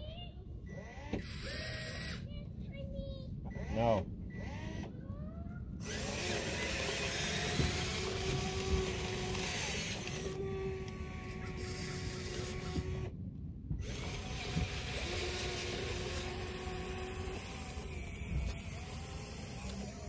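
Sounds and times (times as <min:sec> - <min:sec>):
small electric motors whining: 0:00.7 - 0:02.3, 0:03.5 - 0:05.0, 0:05.8 - 0:13.2, 0:13.8 - 0:20.0.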